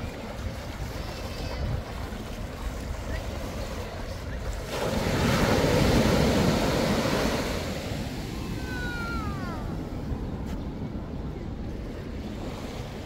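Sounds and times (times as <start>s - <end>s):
ocean wave breaking: 0.0s - 10.8s
wind buffeting microphone: 0.0s - 13.0s.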